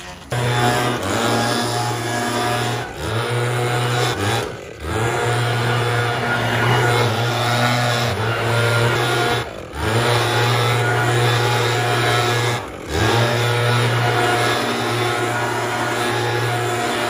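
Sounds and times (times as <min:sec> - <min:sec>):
leaf blower running: 0:00.0 - 0:17.0.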